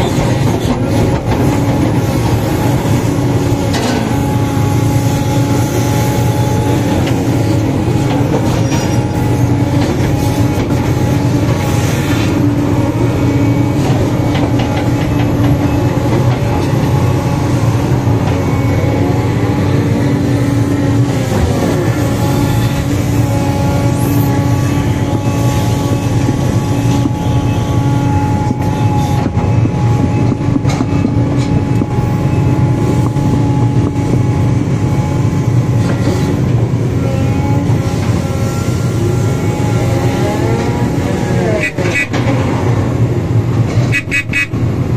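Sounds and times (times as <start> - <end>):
excavator engine and hydraulics: 0.0 - 44.9.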